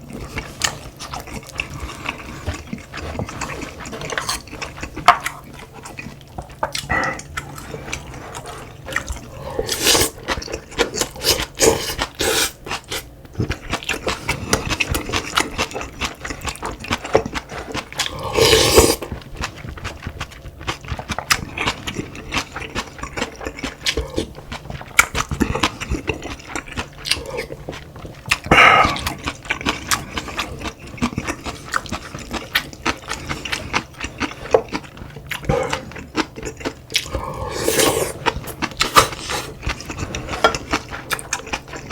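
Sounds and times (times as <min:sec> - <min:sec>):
wet chewing and smacking: 0:00.0 - 0:18.1, 0:19.0 - 0:41.9.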